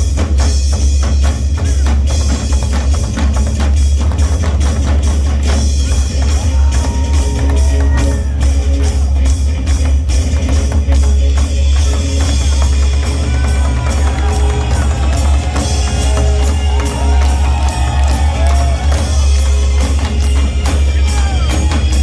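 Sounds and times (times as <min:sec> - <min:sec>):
fast drums: 0:00.0 - 0:22.0
low bass: 0:00.0 - 0:22.0.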